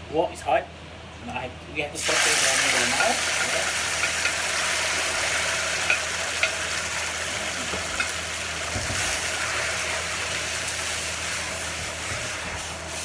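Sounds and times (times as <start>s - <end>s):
noodles sizzling in a wok: 2.0s - 13.0s.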